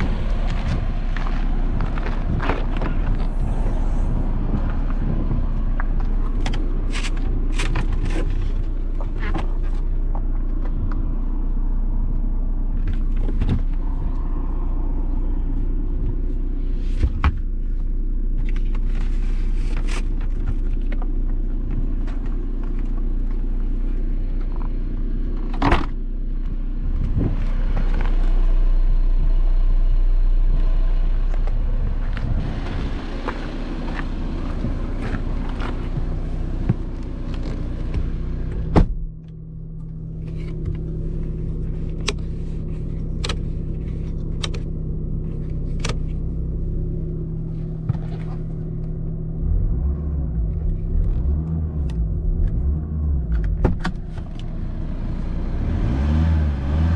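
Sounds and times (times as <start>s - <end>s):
diesel engine idling: 0.0s - 51.0s, 52.0s - 56.9s.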